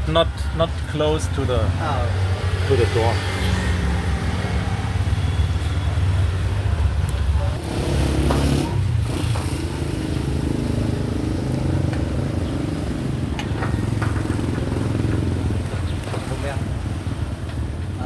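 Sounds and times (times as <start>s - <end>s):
engine running low: 0.0s - 18.0s.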